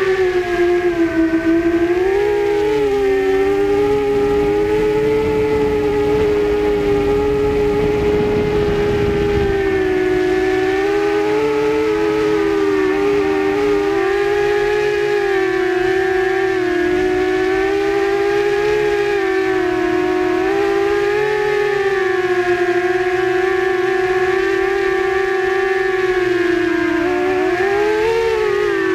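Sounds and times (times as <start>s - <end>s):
drone motors whining: 0.0s - 28.9s
wind rumble on microphone: 0.0s - 28.9s.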